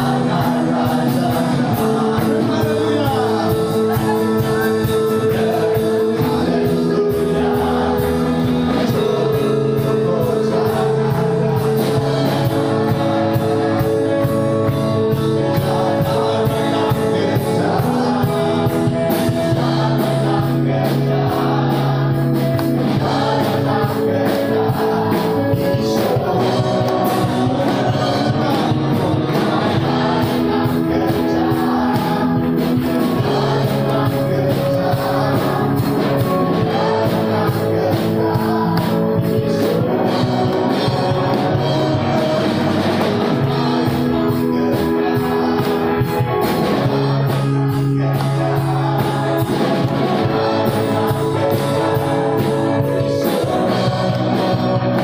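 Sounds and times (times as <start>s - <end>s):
band accompaniment with steady beat: 0.0s - 55.0s
people singing worship song: 0.0s - 55.0s.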